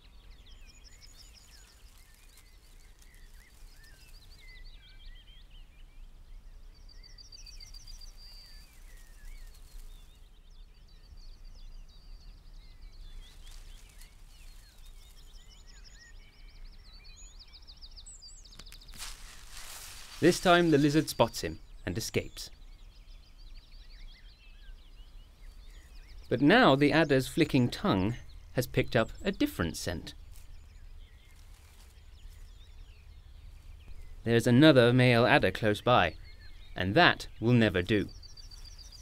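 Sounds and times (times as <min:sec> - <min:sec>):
songbirds trilling and chirping: 0:00.0 - 0:39.0.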